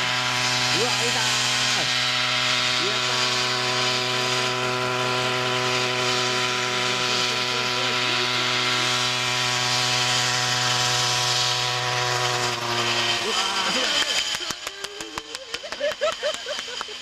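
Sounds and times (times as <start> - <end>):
model helicopter engine running: 0.0 - 17.0
rotors whirring: 0.0 - 17.0.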